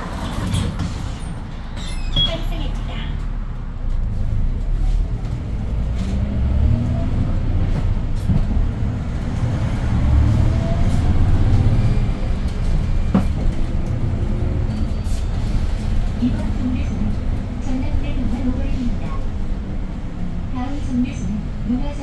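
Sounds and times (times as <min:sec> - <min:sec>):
bus engine accelerating: 0:00.0 - 0:22.0.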